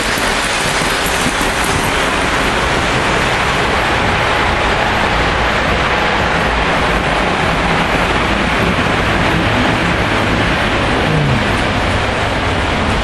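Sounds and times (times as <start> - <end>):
model trains running on track: 0.0 - 13.0.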